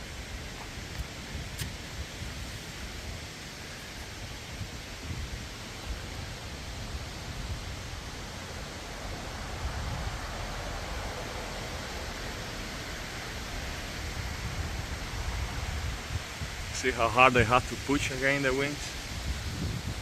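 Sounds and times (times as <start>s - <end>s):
strong gusty wind: 0.0s - 20.0s
wind buffeting microphone: 0.0s - 20.0s.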